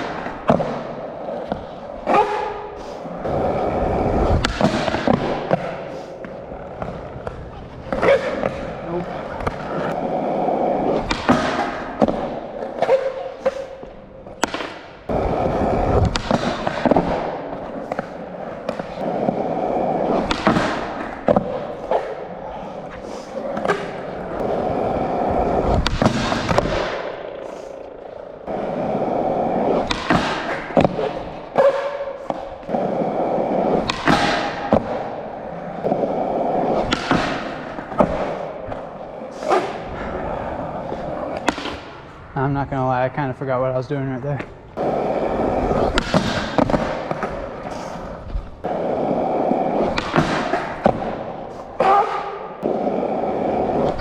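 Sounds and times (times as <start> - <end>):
skateboard clacks and thuds: 0.0 - 42.2, 44.4 - 54.0
skateboard wheels rolling on concrete: 0.0 - 54.0.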